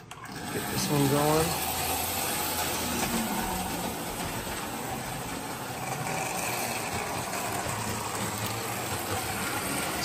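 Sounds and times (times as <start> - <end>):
faint motor hum: 0.0 - 10.0
toy train wheels rattling on rails: 0.0 - 10.0.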